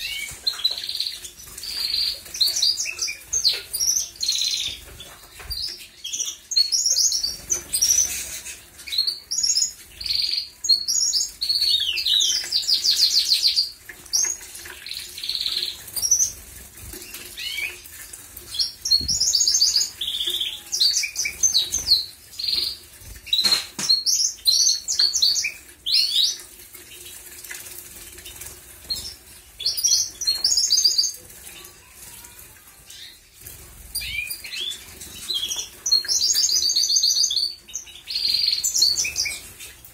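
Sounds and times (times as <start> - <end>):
canaries chirping and trilling: 0.0 - 39.9
wings fluttering and splashing: 0.0 - 39.9.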